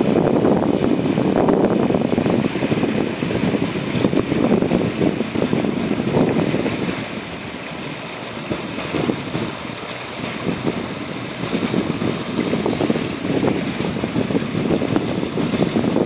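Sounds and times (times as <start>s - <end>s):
sea washing: 0.0s - 16.0s
wind buffeting microphone: 0.0s - 16.0s.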